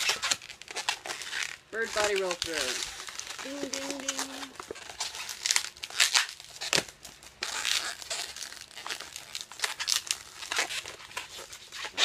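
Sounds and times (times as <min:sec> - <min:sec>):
latex balloon rubbing and twisting: 0:00.0 - 0:06.8, 0:07.4 - 0:12.0.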